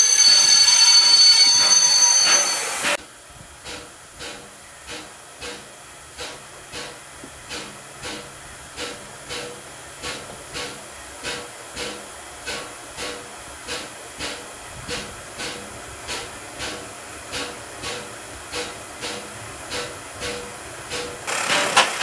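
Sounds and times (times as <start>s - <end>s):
steam hissing: 0.0s - 22.0s
steam locomotive chuffing: 0.0s - 22.0s.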